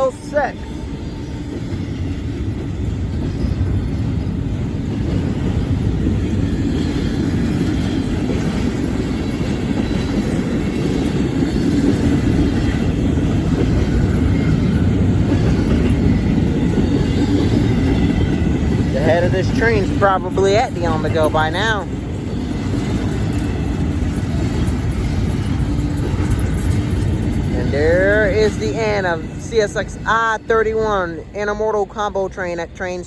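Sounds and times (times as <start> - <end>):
freight train rolling past: 0.0 - 33.0.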